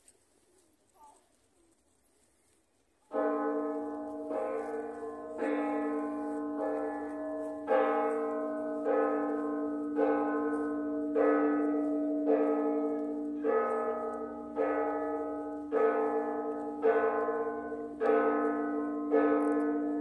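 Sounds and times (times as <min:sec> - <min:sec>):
church bells ringing: 0:03.1 - 0:20.0.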